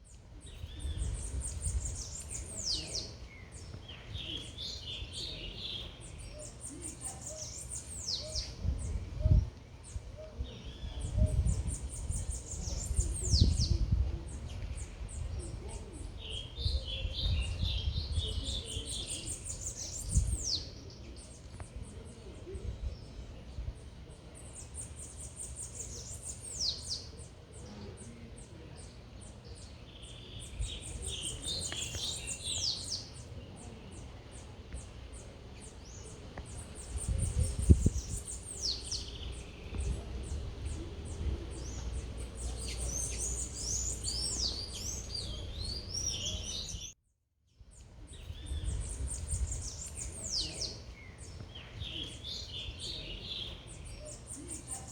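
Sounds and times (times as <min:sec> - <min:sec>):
small birds chirping: 0:00.0 - 0:47.0, 0:47.6 - 0:54.9
low city rumble: 0:00.1 - 0:47.0.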